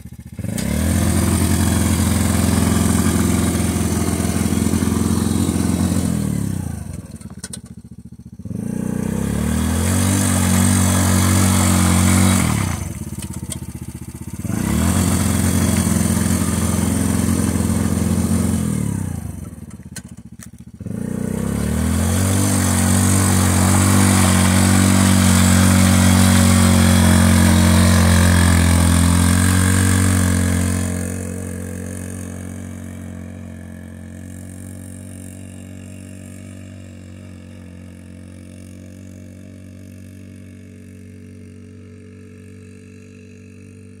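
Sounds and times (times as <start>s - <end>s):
quad bike engine running: 0.0s - 44.0s.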